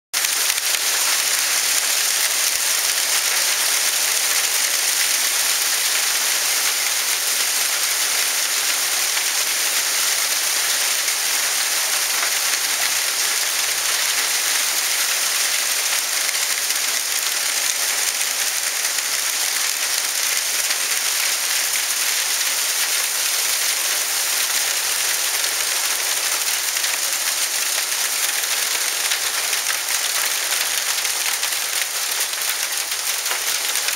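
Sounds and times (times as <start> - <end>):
hail and heavy rain pelting: 0.2 - 33.9.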